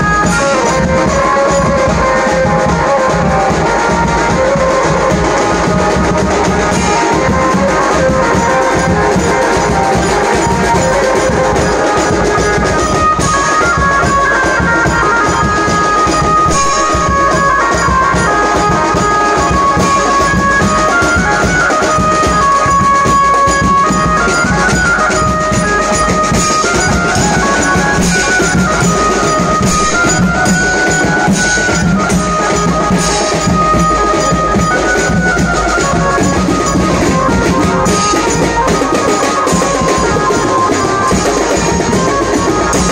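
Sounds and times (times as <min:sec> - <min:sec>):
drums keeping steady beat: 0:00.0 - 0:42.9
procession band playing: 0:00.0 - 0:42.9.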